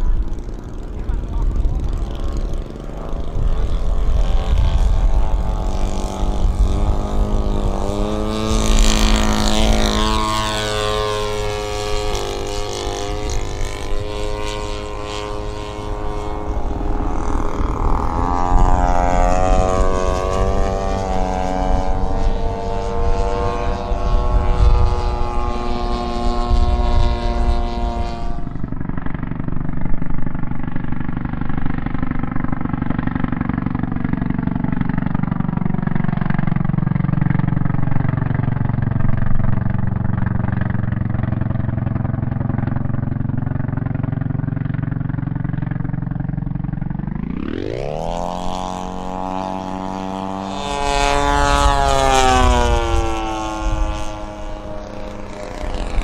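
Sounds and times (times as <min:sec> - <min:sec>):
model airplane engine and propeller: 0:00.0 - 0:56.0
wind rumbling on microphone: 0:00.0 - 0:56.0.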